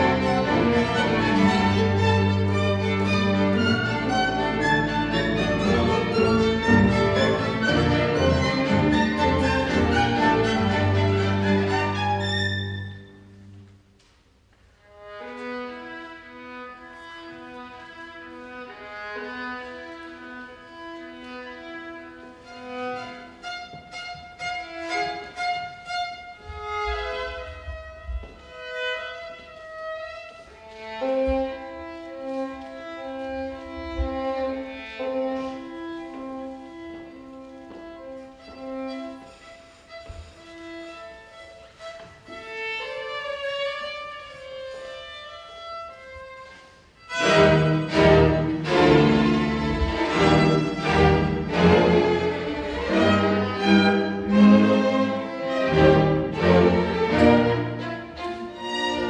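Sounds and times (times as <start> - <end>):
string orchestra playing: 0.0 - 13.9, 14.8 - 59.0.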